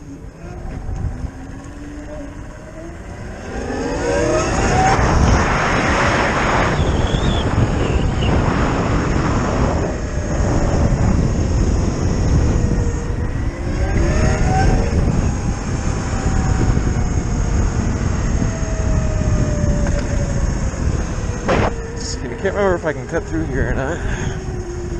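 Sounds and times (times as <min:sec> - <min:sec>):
electric motorcycle motor whine: 0:00.0 - 0:24.9
wind on microphone: 0:00.0 - 0:24.9.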